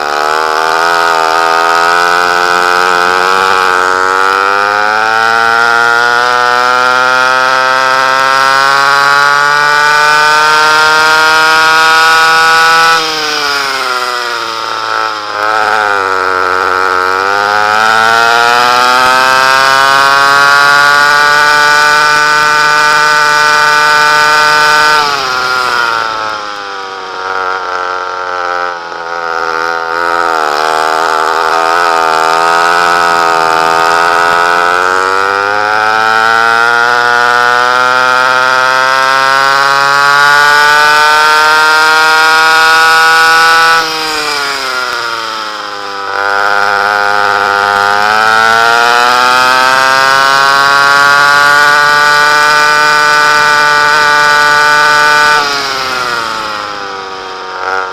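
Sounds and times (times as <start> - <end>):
two-stroke kart engine racing: 0.0 - 57.9.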